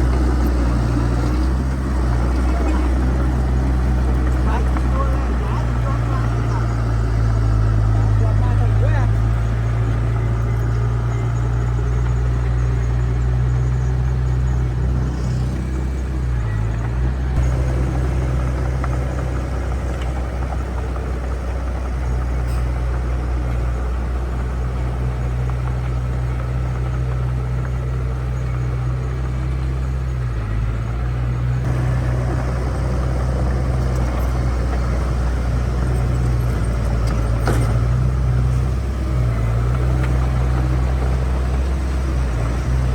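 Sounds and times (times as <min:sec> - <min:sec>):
heavy diesel engine droning: 0:00.0 - 0:42.9.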